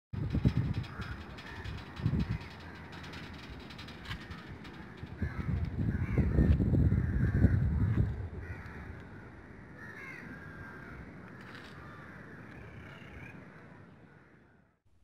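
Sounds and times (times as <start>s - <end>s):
crows cawing: 0.6s - 14.7s.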